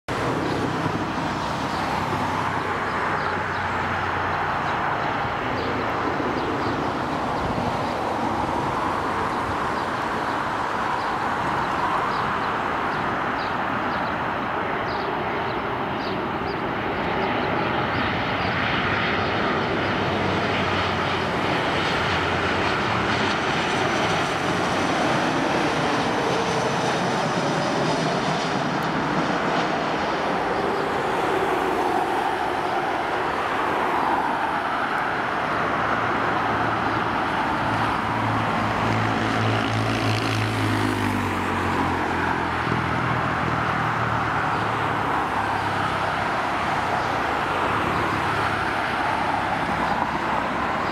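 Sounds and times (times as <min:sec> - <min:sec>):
jet airliner engines overhead: 0:00.1 - 0:50.9.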